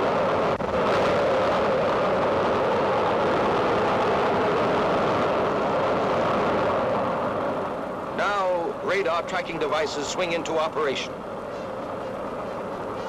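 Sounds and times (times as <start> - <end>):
rocket engine roaring: 0.0 - 13.0.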